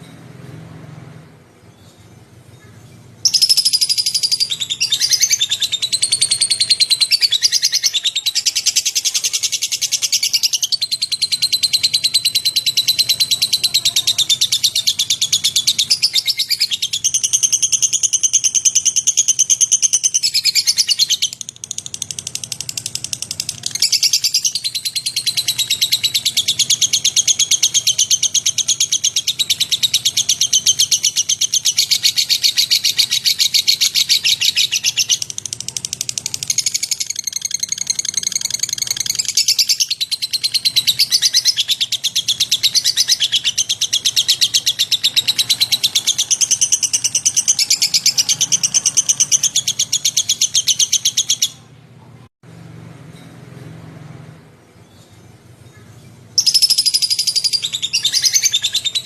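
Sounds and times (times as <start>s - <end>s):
bird chattering trill: 2.6s - 51.7s, 55.7s - 59.0s.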